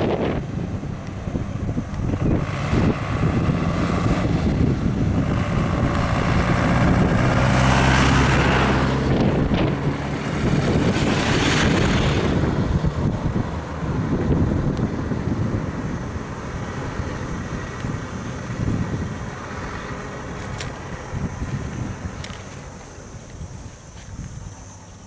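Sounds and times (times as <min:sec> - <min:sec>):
truck engine driving past: 0:00.0 - 0:23.2
wind buffeting microphone: 0:00.0 - 0:25.0.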